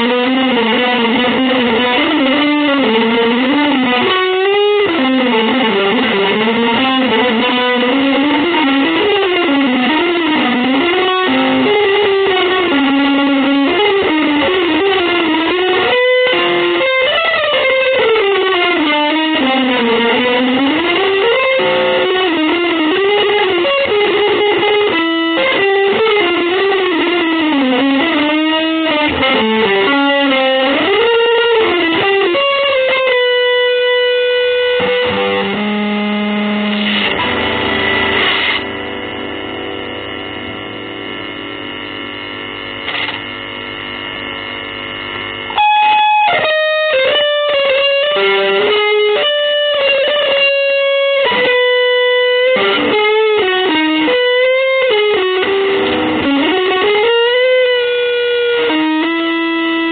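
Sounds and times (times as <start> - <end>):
distorted electric guitar melody: 0.0 - 59.9.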